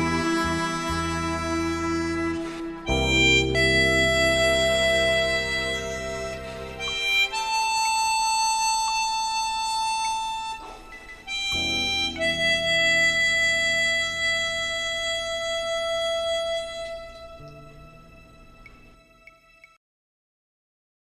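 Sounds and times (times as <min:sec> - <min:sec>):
harmonica slow melody: 0:00.0 - 0:19.6
low backing accompaniment: 0:00.0 - 0:19.8.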